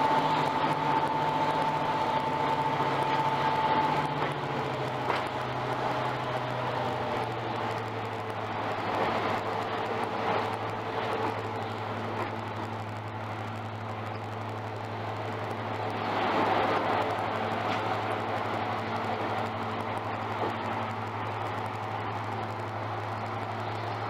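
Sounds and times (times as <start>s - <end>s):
diesel locomotive engine drone: 0.0s - 24.0s
moving carriages: 0.0s - 24.0s.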